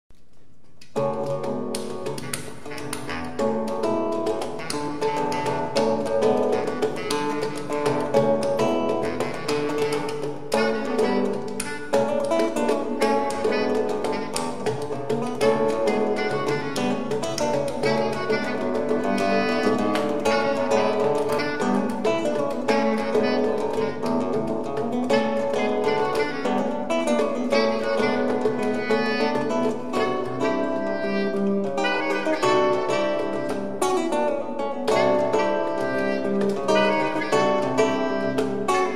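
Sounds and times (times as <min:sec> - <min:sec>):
acoustic guitar plucking: 0:00.3 - 0:38.9
hand drum taps: 0:00.8 - 0:38.9.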